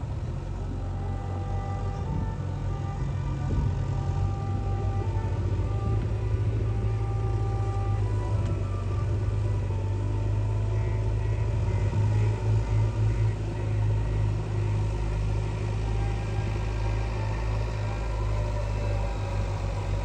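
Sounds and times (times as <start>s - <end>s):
heavy engine rumbling: 0.0s - 20.0s.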